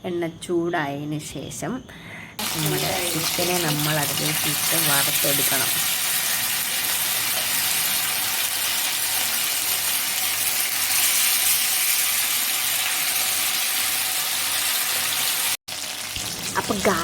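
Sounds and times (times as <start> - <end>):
chicken frying in oil: 2.4 - 17.0.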